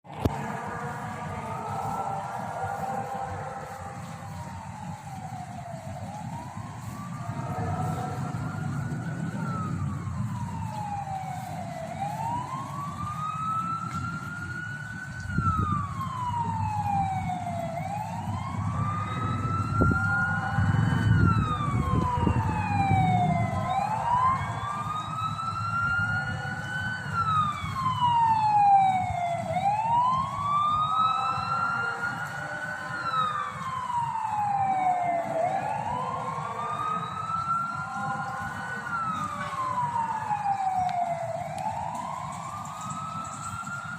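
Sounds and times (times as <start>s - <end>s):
low rumbling noise: 0.0s - 43.9s
siren-like wail over loudspeaker: 0.0s - 43.9s.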